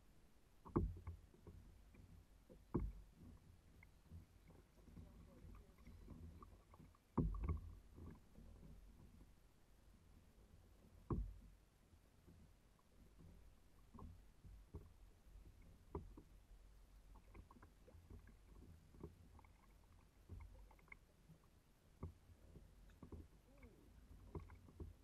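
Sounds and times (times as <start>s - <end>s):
water lapping against kayak: 0.0s - 25.0s
small knocks: 0.6s - 9.3s, 11.0s - 11.5s, 13.1s - 16.3s, 17.1s - 25.0s.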